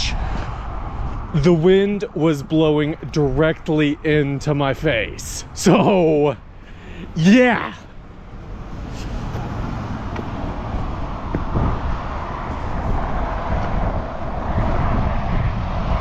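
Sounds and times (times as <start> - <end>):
wind rumble on microphone: 0.0 - 5.6, 8.0 - 16.0
vehicle approaching: 0.0 - 16.0.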